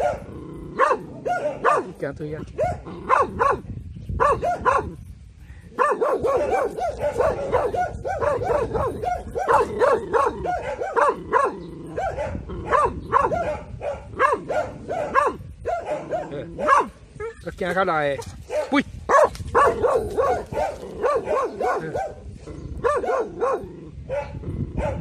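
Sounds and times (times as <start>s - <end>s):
dog barking: 0.0s - 2.0s, 2.6s - 3.6s, 4.2s - 5.0s, 5.8s - 17.4s, 18.5s - 25.0s.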